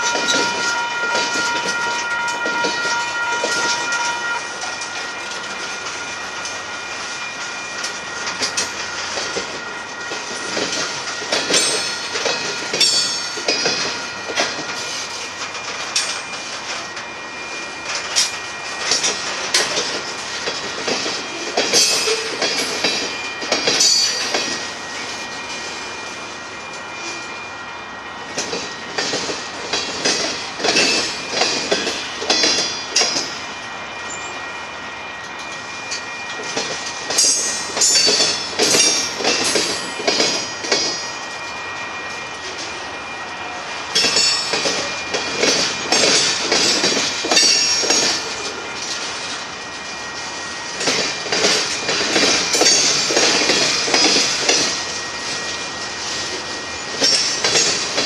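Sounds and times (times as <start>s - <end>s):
wheels clacking over rail joints: 0.0s - 17.1s, 17.8s - 25.6s, 28.3s - 34.2s, 35.3s - 42.8s, 43.9s - 58.0s
freight train rolling rumble: 0.0s - 58.0s.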